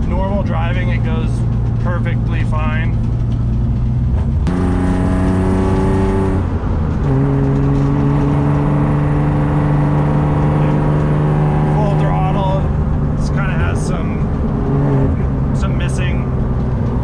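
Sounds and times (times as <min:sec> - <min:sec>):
car engine running under load: 0:00.0 - 0:17.0.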